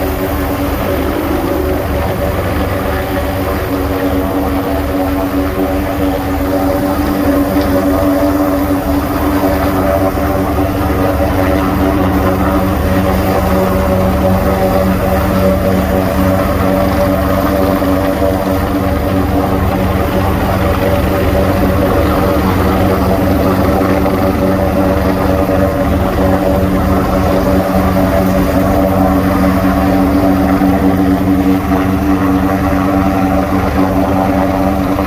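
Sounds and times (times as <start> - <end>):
helicopter hovering: 0.0 - 35.0.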